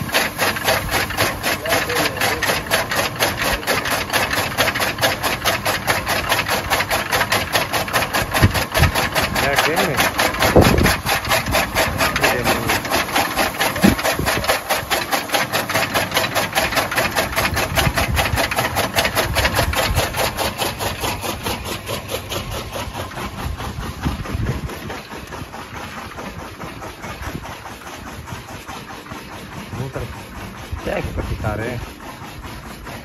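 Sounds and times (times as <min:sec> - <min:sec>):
chaff cutter blades clacking: 0:00.0 - 0:33.0.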